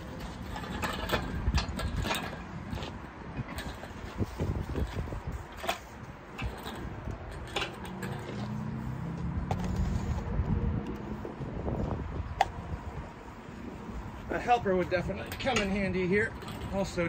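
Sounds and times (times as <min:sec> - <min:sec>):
hoist rolling rumble: 0:00.0 - 0:17.0.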